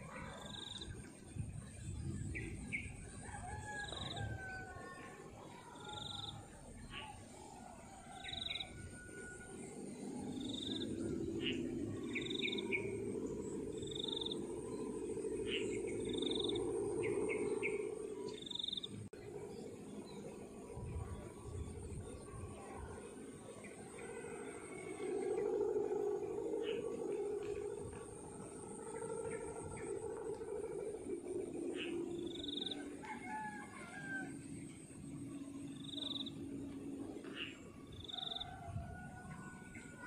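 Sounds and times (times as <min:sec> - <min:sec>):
low steady drone: 0:00.0 - 0:40.0.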